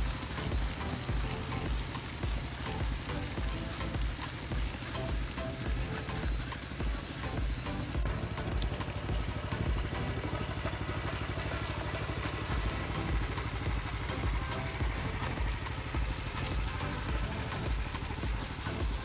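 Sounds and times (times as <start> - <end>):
engine running with uneven throb: 0.0 - 19.0.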